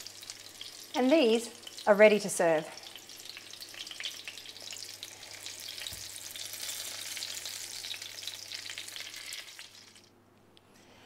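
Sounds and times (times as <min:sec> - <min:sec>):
fish fillets sizzling in oil: 0:00.0 - 0:10.1.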